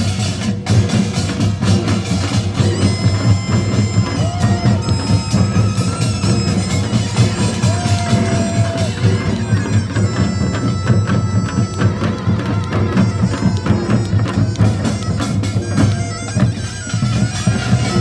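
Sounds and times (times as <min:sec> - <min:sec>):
drums and small gongs: 0:00.0 - 0:18.0
shawm playing nasal melody: 0:00.0 - 0:18.0.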